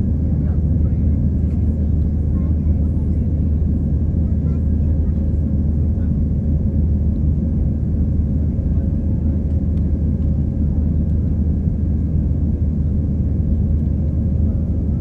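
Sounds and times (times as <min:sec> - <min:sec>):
jet engine and airflow rumble: 0:00.0 - 0:15.0.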